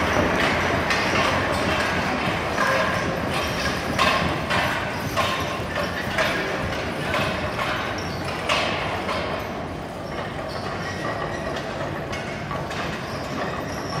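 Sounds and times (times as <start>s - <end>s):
wagon rolling rumble: 0.0s - 14.0s.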